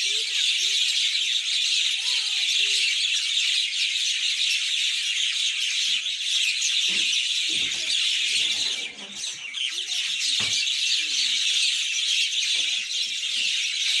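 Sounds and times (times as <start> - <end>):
birds chirping in chorus: 0.0 - 14.0.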